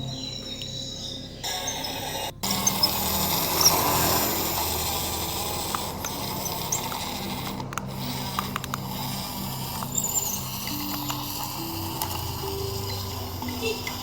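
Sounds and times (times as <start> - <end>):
toy gear mechanism whirring: 0.0 - 14.0
sharp clicks: 1.6 - 14.0.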